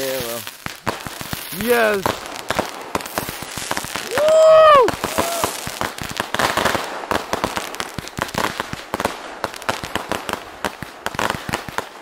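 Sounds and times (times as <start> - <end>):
fireworks popping and banging: 0.0 - 12.0.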